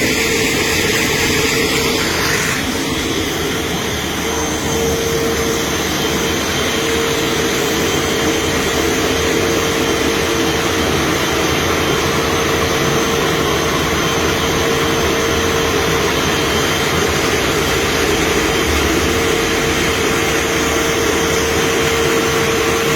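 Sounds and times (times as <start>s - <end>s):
floor grinding machine whining: 0.0s - 22.9s.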